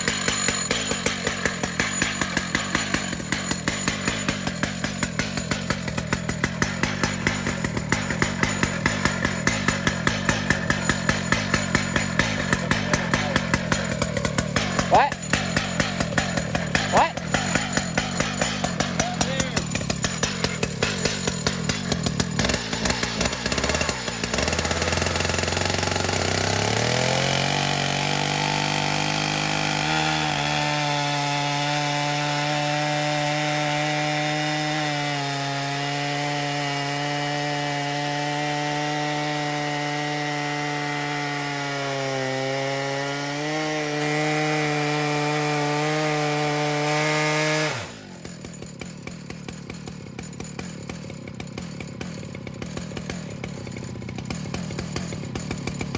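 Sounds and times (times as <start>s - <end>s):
chainsaw cutting a log: 0.0s - 55.9s.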